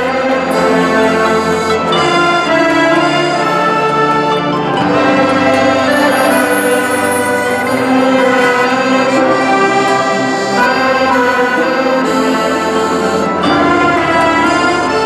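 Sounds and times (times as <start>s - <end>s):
string orchestra with harp: 0.0s - 15.0s.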